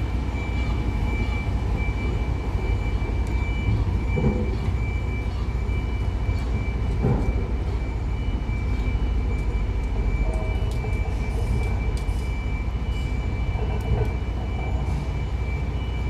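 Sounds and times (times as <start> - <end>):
tram low rumble: 0.0 - 16.0.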